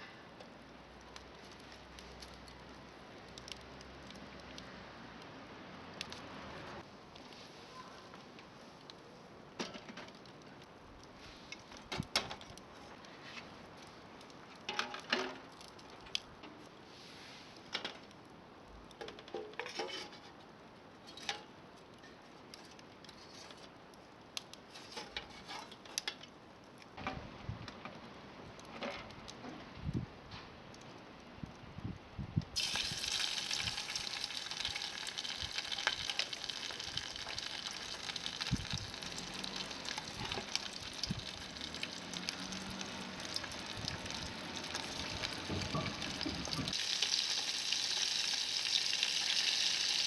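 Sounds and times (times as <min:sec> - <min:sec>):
faint steady background noise: 0:00.0 - 0:50.0.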